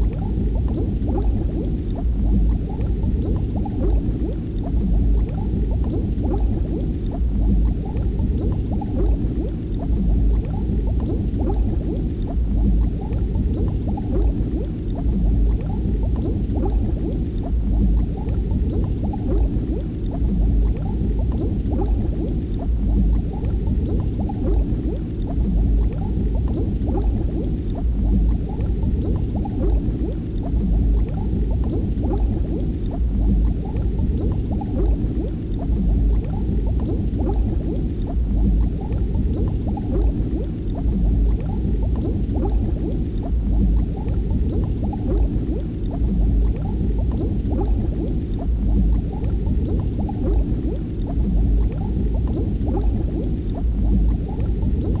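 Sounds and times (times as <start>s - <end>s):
water bubbling and gurgling: 0.0s - 55.0s.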